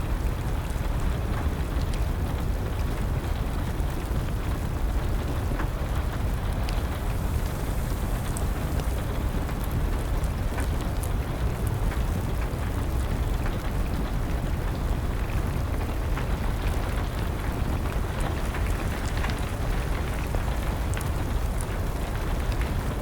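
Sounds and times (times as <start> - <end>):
steady rain: 0.0 - 23.0
wood fire crackling and popping: 0.1 - 23.0.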